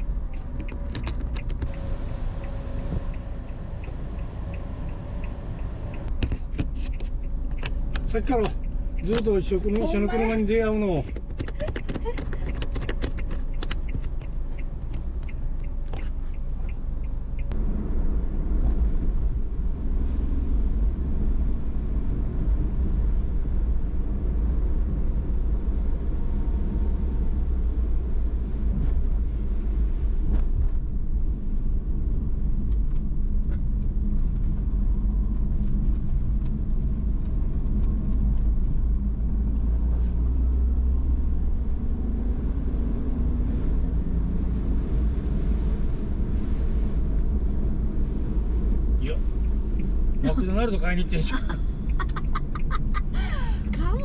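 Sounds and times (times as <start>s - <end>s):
car driving from inside: 0.0s - 54.0s.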